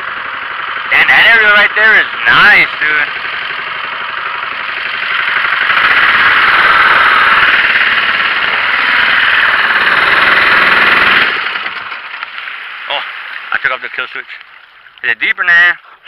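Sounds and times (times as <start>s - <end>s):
boat motor running loud: 0.0s - 13.8s.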